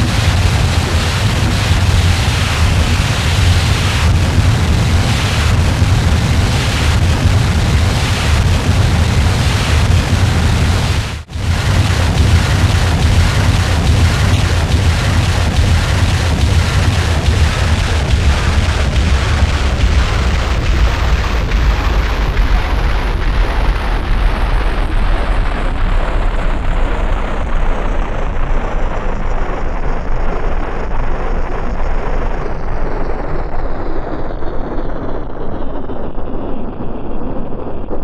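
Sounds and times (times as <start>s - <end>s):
harsh distorted noise: 0.0s - 38.0s.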